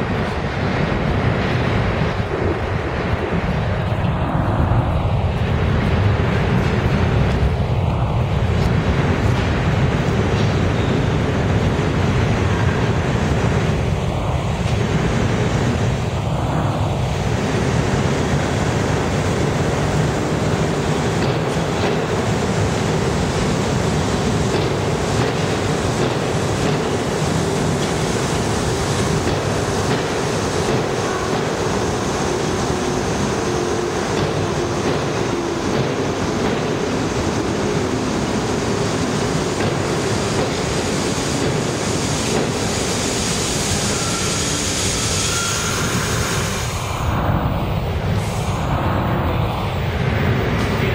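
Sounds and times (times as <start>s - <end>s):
subway train rolling on rails: 0.0s - 50.9s.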